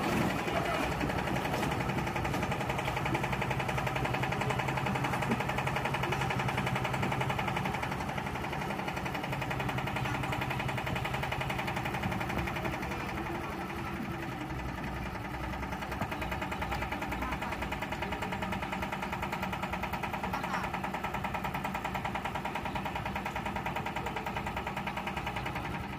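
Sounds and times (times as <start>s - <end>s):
diesel engine knocking steadily: 0.0s - 25.9s.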